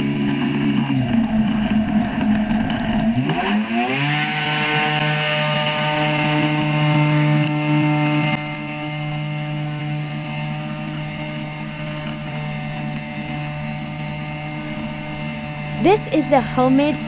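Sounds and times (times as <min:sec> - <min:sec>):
flying boat engine revving: 0:00.0 - 0:17.0.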